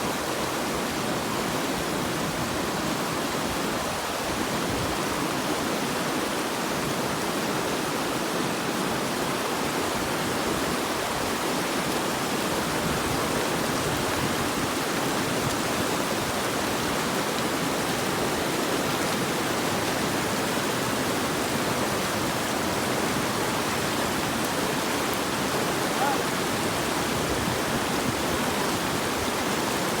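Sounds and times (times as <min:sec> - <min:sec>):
stream rushing: 0:00.0 - 0:30.0.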